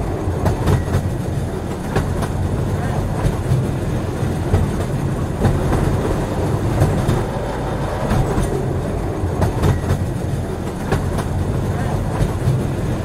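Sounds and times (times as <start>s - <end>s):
train rumbling: 0.0s - 13.0s
wheels clicking over rail joints: 0.0s - 13.0s.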